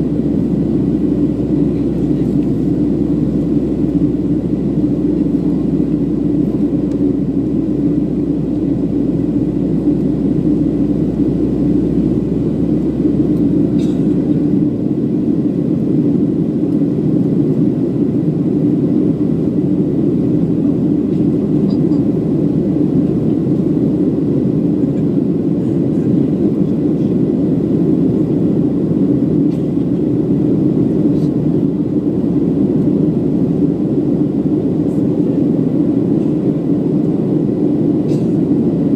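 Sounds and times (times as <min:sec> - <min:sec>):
airplane cabin drone: 0:00.0 - 0:38.9.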